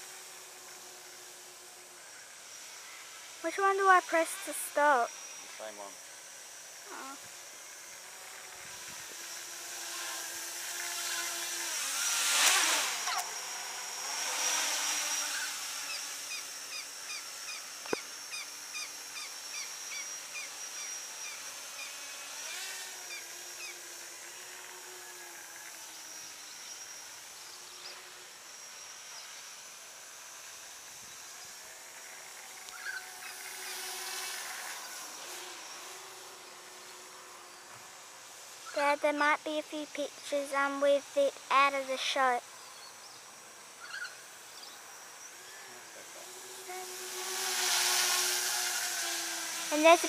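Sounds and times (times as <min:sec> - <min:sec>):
quadcopter motors whining: 0:00.0 - 0:50.0.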